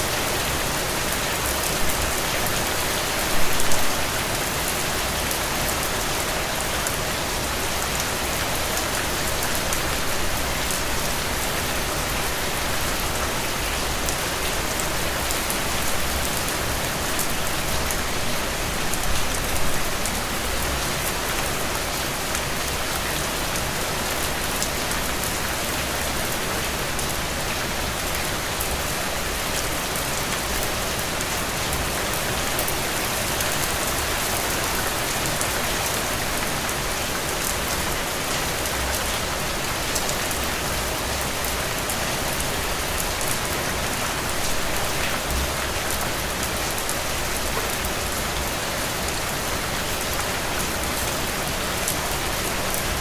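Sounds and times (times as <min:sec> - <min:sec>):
heavy rain on ground and puddles: 0:00.0 - 0:53.0.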